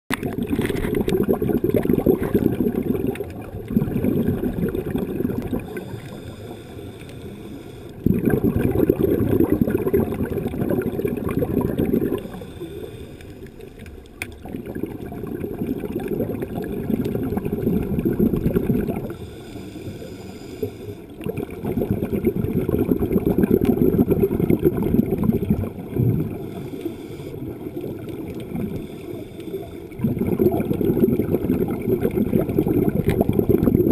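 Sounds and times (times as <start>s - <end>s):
muffled underwater bubbling: 0.1s - 33.9s.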